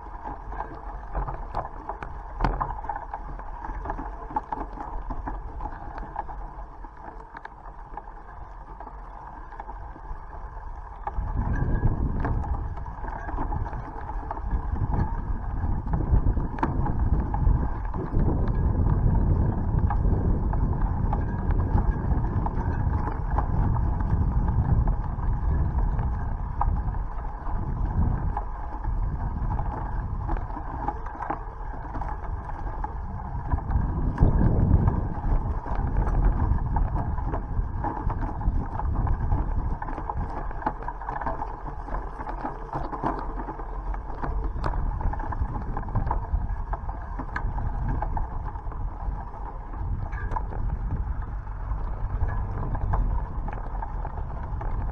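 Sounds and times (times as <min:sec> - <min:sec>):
bicycle whirring in motion: 0:00.0 - 0:54.9
wind buffeting microphone: 0:10.2 - 0:54.9.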